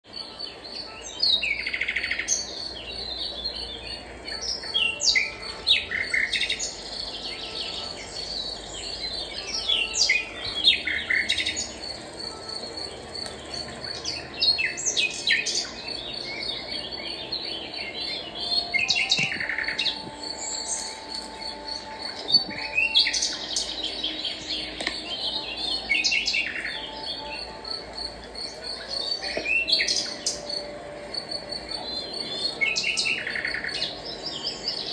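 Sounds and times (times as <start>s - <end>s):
pulsing high insect trill: 0.1s - 34.9s
small birds chirping: 0.1s - 34.9s.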